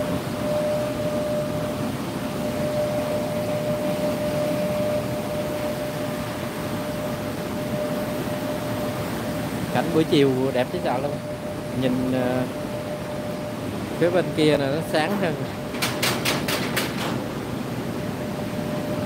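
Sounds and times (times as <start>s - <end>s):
steady tone: 0.0s - 15.7s.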